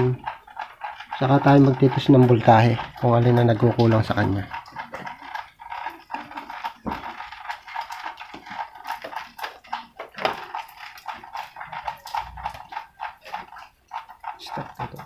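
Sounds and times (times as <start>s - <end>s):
small clicks and clattering: 0.0s - 15.0s.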